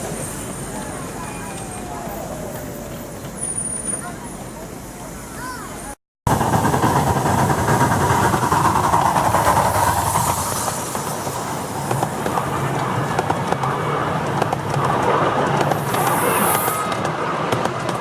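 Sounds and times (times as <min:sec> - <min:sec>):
train wheels clicking on rails: 0:00.0 - 0:04.5, 0:06.3 - 0:18.0.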